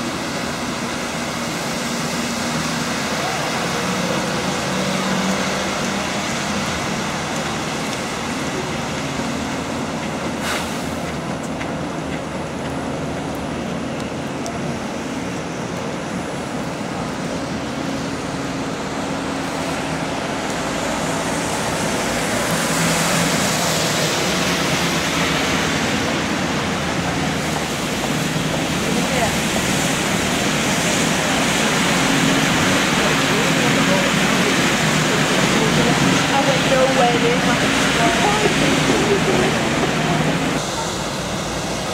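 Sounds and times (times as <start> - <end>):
tyres hissing on wet road: 0.0 - 41.9.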